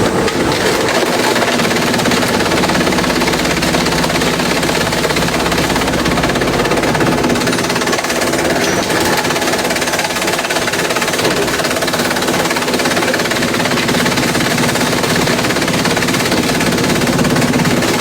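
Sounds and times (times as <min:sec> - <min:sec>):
machine hum: 0:00.0 - 0:18.0
shredder crackling bamboo: 0:00.0 - 0:18.0.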